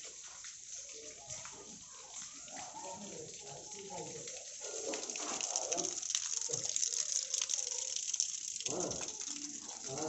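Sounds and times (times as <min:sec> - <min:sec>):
water gushing from a tap into a tank: 0:00.0 - 0:10.0.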